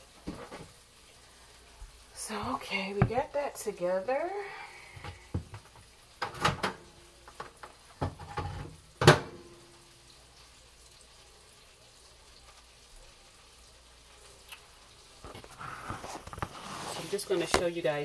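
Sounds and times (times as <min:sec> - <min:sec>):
butter sizzling in skillet: 0:00.0 - 0:18.0.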